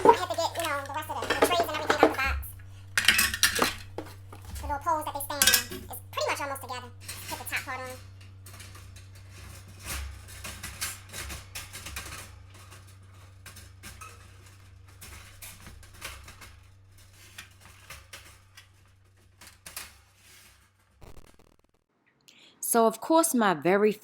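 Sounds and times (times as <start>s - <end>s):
steady low hum: 0.0s - 19.2s
metal cage parts clattering: 0.0s - 20.8s.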